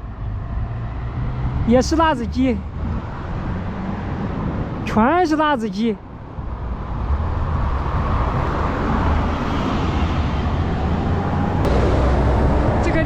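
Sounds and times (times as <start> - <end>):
low traffic rumble: 0.0 - 13.0
vehicle passing: 0.0 - 13.0.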